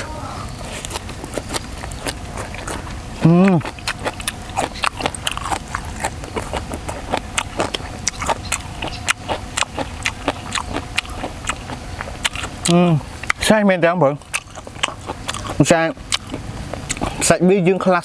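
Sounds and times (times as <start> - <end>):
wet chewing clicks and smacks: 0.7 - 18.0.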